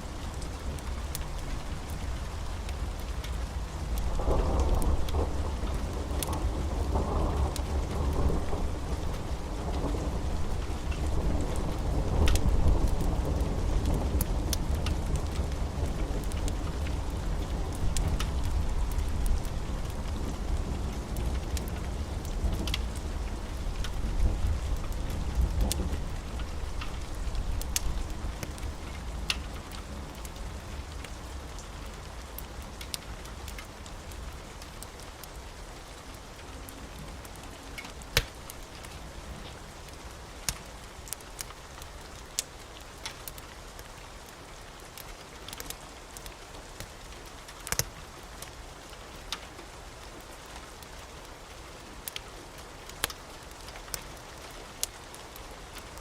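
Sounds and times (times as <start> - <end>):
steady rain falling: 0.0 - 56.0
wood fire crackling: 0.0 - 56.0.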